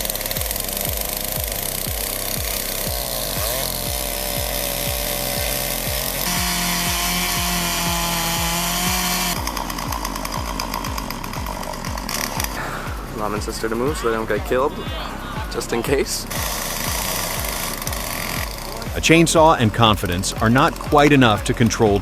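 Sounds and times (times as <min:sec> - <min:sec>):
chainsaw cutting wood: 0:00.0 - 0:22.0
music with thumping beat: 0:00.0 - 0:22.0.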